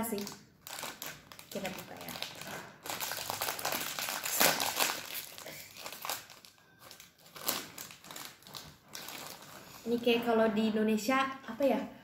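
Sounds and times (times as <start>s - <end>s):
foil snack packet crinkling: 0.1s - 9.8s.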